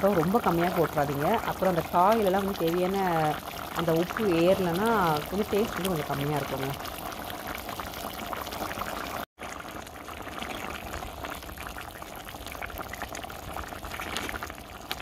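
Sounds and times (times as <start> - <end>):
stew bubbling in a pan: 0.0 - 15.0.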